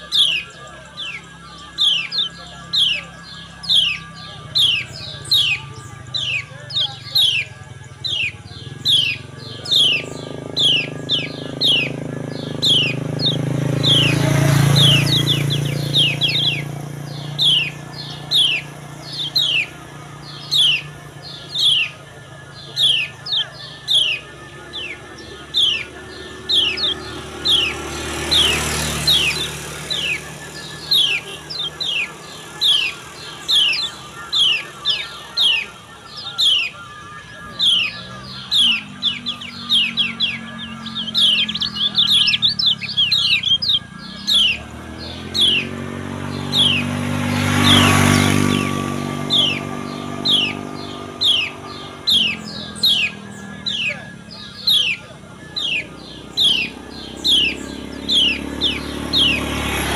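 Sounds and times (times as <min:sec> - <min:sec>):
bird calling high falling notes: 0:00.0 - 0:59.9.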